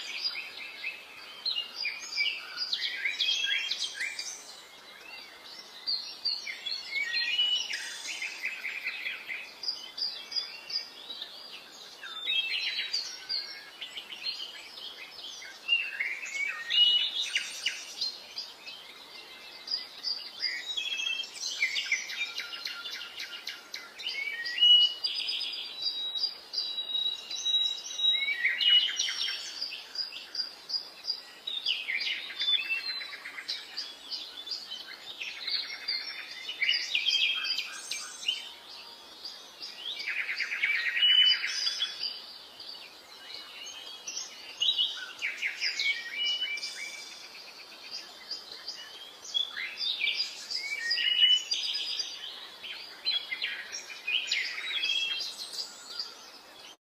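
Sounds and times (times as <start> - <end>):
birds chirping and trilling: 0.0 - 56.8.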